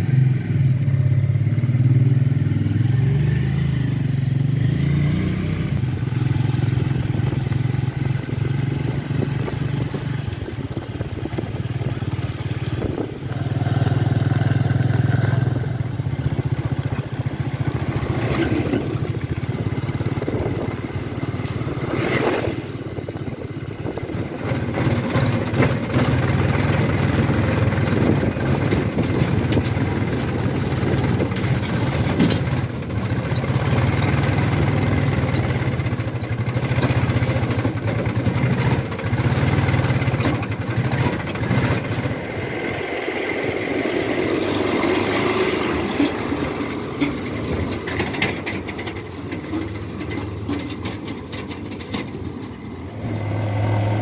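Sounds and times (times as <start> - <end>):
motorcycle engine running: 0.0 - 54.0
tractor diesel engine running: 0.0 - 54.0.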